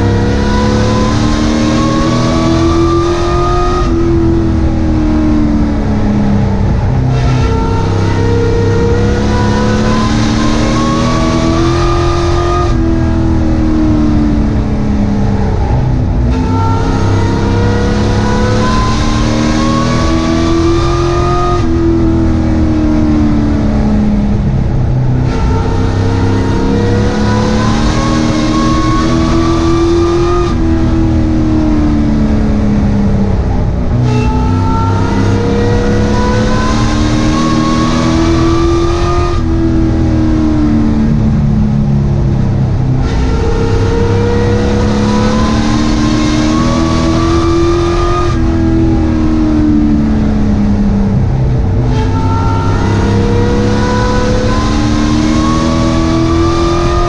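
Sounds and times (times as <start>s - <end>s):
race truck engine revving: 0.0s - 57.0s.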